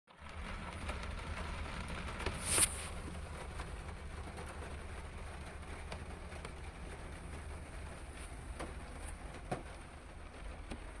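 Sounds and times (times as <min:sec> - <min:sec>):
steady rain falling: 0:00.1 - 0:11.0.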